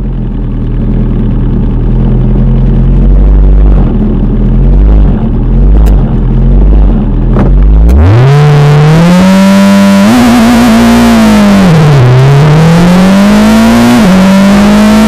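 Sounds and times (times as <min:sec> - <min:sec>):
racing engine revving: 0:02.1 - 0:15.0.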